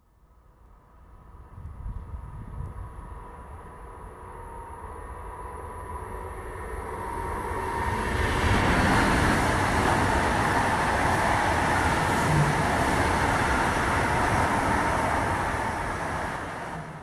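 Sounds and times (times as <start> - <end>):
high-speed train passing: 1.5 - 17.0.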